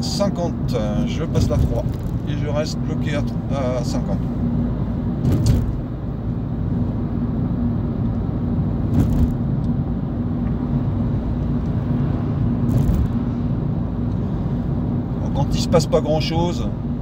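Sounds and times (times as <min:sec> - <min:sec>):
tyre and road rumble: 0:00.0 - 0:15.4
car engine running: 0:00.0 - 0:17.0.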